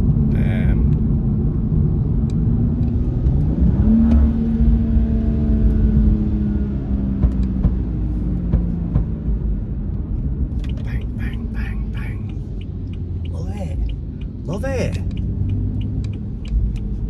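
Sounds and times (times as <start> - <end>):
car engine drone: 0.0 - 17.0
road rumble: 0.0 - 17.0.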